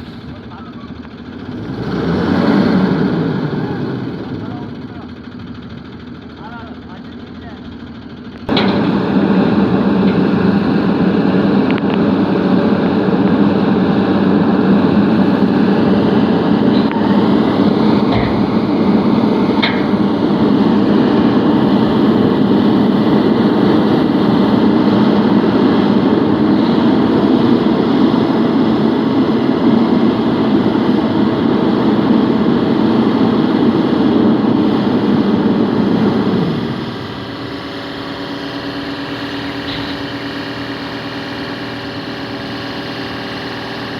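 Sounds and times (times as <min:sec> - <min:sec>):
diesel truck engine revving: 0:00.0 - 0:06.3, 0:08.2 - 0:43.9.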